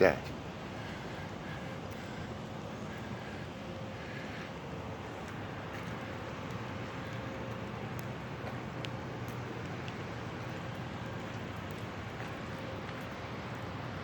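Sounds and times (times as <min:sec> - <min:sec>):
steady rain falling: 0:00.6 - 0:14.0.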